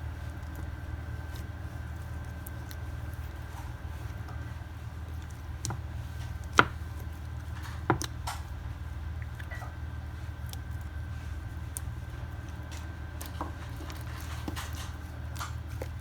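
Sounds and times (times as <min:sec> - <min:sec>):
slime squishing: 0:00.0 - 0:16.0
steady low hum: 0:00.0 - 0:16.0.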